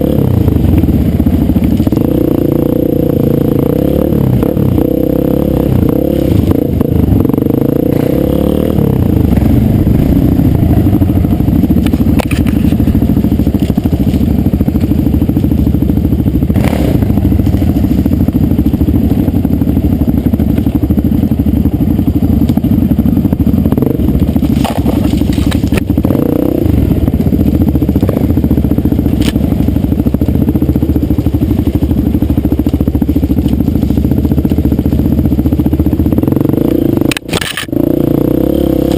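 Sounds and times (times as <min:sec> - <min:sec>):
dirt bike engine running hard: 0:00.0 - 0:38.9.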